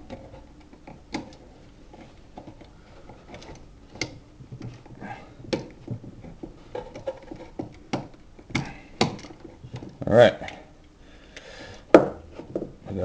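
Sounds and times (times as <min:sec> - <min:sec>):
hand tools and wire clicking: 0:00.0 - 0:11.5.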